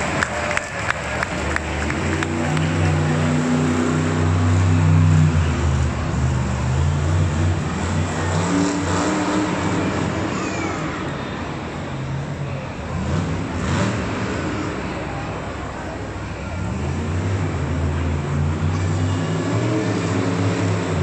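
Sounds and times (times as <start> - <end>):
monster truck engines revving: 0.0 - 21.0.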